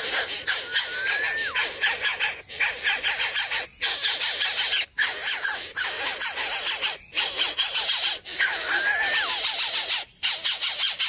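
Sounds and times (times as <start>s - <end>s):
nestlings begging with raspy calls: 0.0s - 11.0s.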